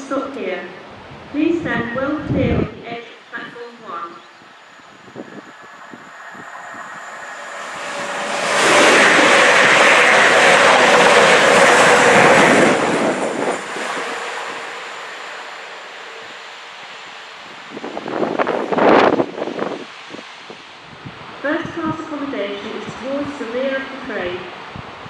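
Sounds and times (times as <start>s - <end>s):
train passing at speed: 0.0s - 2.6s, 4.2s - 25.0s.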